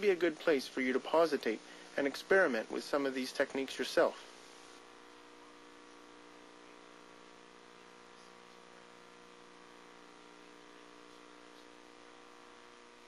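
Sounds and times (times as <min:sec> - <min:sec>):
faint hum with hiss: 0:00.0 - 0:13.0.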